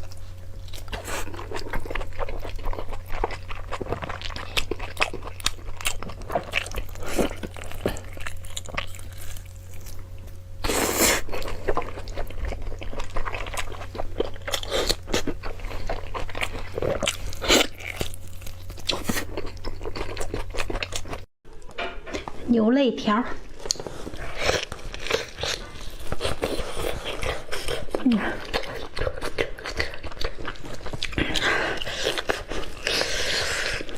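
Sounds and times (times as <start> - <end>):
crunching and chewing food: 0.0 - 22.3, 23.4 - 33.9
steady low hum: 0.0 - 33.9.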